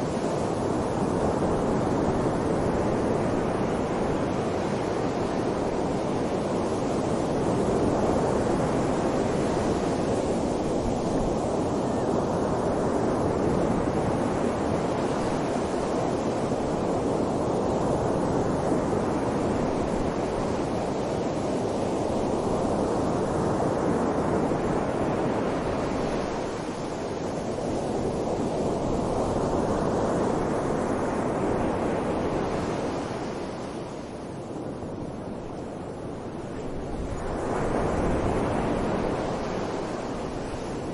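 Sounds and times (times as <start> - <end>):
wind gusting hard: 0.0 - 40.9.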